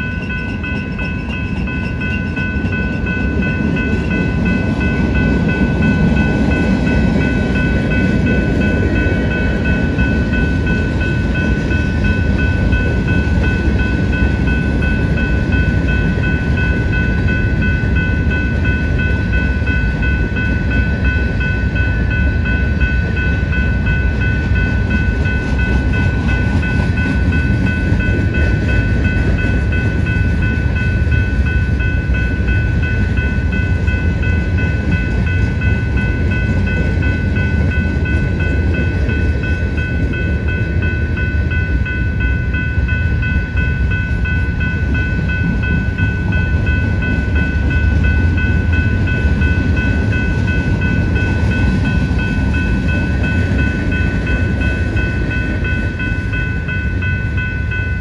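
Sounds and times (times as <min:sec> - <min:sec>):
high-pitched ringing tones: 0:00.0 - 0:58.0
train wheels rumbling on rail: 0:00.0 - 0:58.0.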